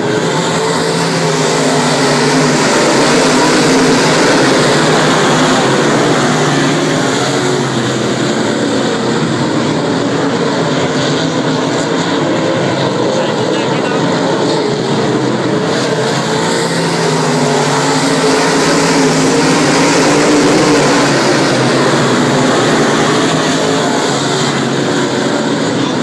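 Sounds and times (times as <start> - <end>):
race car engines roaring: 0.0 - 26.0.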